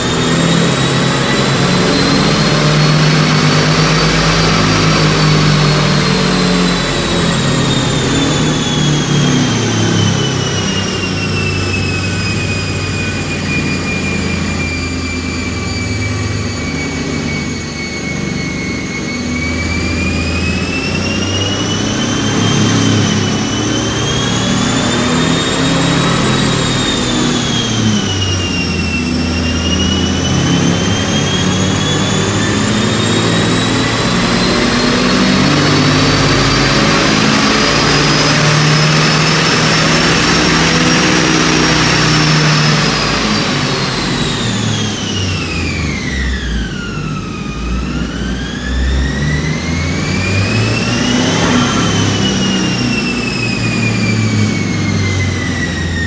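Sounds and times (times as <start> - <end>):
car engine under load: 0.0 - 56.0
turbo whine: 0.0 - 56.0.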